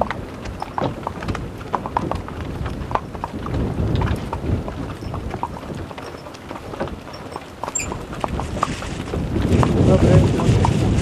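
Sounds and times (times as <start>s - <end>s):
hooves clopping on wet asphalt: 0.0s - 11.0s.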